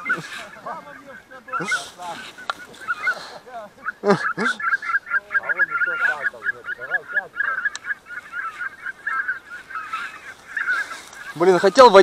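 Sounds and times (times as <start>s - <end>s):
geese calling: 0.0s - 12.0s.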